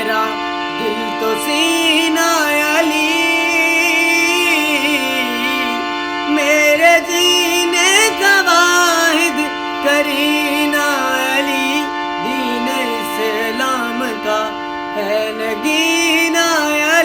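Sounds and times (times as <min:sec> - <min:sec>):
person chanting devotional song: 0:00.0 - 0:17.0
steady held drone: 0:00.0 - 0:17.0.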